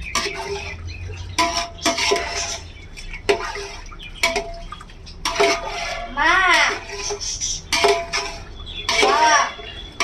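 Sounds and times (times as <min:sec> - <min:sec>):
water pouring into metal pot: 0:00.0 - 0:10.0.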